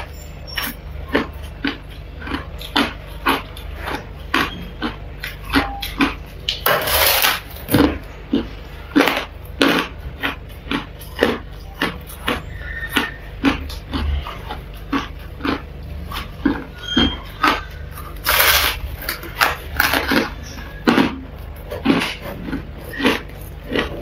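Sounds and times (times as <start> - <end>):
frost being chewed: 0.0 - 24.0.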